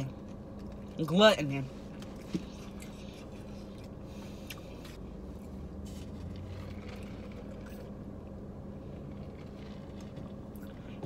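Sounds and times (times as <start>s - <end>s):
car cabin hum: 0.0s - 11.0s
person chewing: 1.9s - 11.0s.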